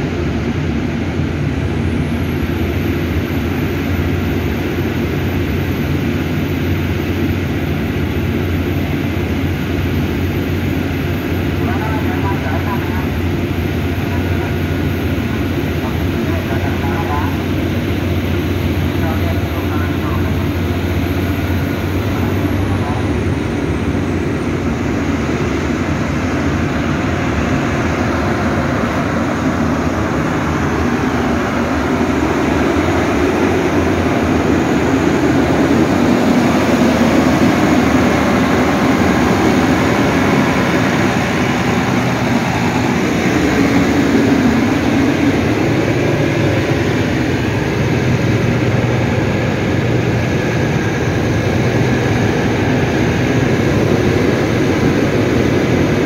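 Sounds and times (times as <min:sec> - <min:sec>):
diesel generator running: 0:00.0 - 0:56.0.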